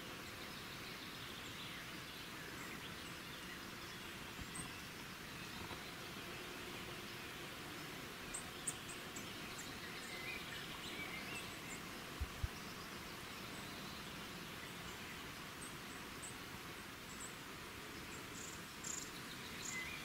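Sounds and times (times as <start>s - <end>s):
outdoor ambience hiss: 0.0s - 20.0s.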